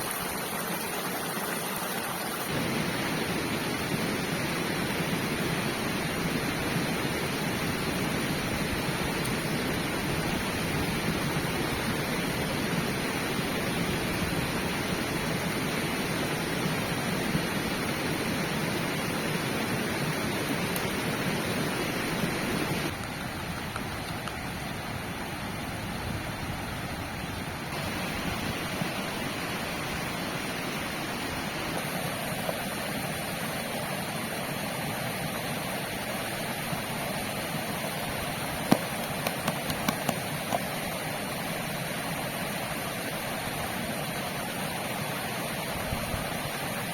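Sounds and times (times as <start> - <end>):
river flowing: 0.0 - 46.9.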